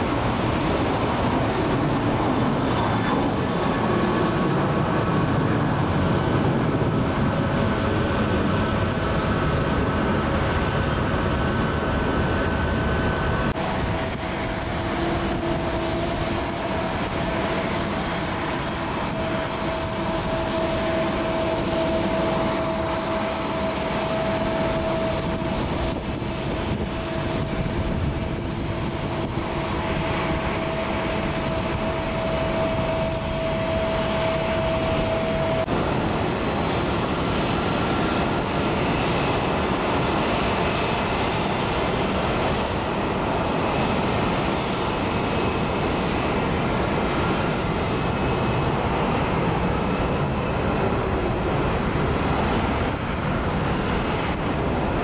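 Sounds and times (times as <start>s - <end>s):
jet engines rushing with whine: 0.0s - 55.0s.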